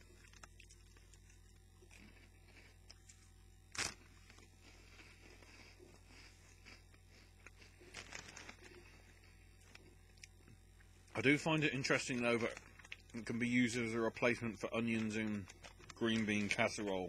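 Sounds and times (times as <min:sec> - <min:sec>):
chewing crunchy snacks: 0:00.0 - 0:17.0.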